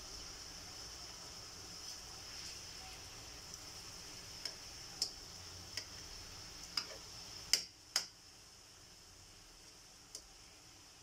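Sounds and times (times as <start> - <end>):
faint high hiss: 0.0 - 11.0.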